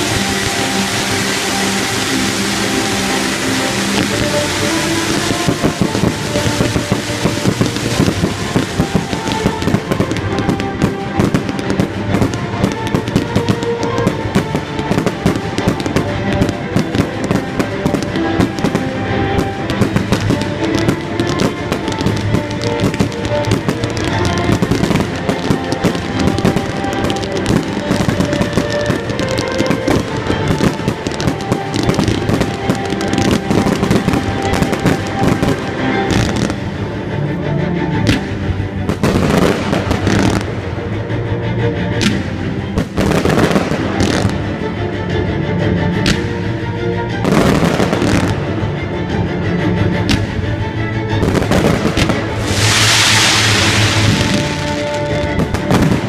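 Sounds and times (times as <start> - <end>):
fireworks bangs and crackles: 0.0 - 37.0, 38.0 - 40.9, 42.0 - 44.6, 46.0 - 46.4, 47.2 - 48.6, 50.0 - 50.4, 51.2 - 56.0
music playing: 0.0 - 56.0.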